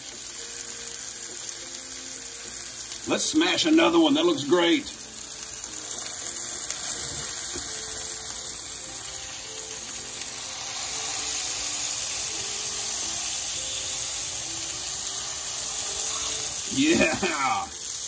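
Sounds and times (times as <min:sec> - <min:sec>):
meat patties sizzling on griddle: 0:00.0 - 0:18.0.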